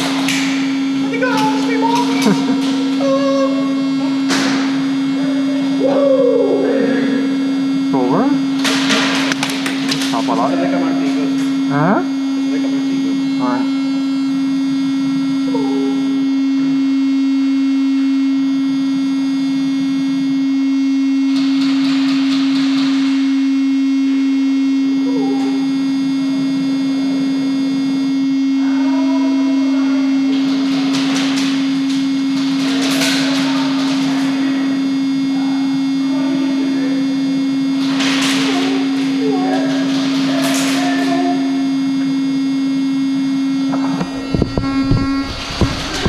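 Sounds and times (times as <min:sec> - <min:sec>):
small fan buzzing: 0:00.0 - 0:46.0.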